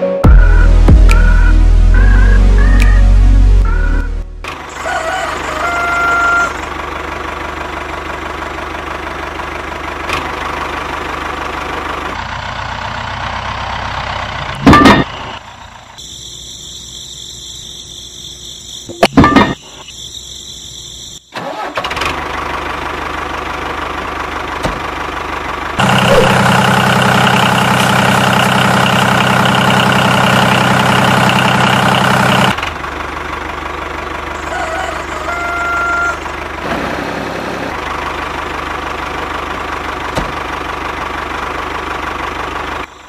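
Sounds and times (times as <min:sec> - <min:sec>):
tractor engine running: 0:00.2 - 0:43.0.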